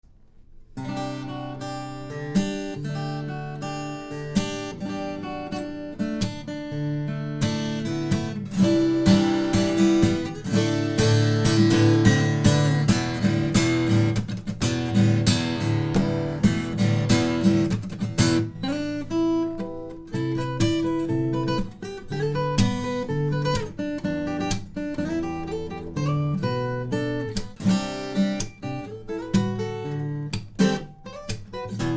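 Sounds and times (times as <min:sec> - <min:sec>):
acoustic guitar playing: 0:00.5 - 0:31.9.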